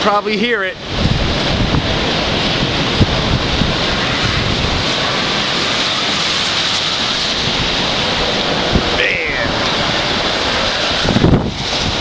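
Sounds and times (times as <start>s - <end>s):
strong wind blowing: 0.0s - 12.0s.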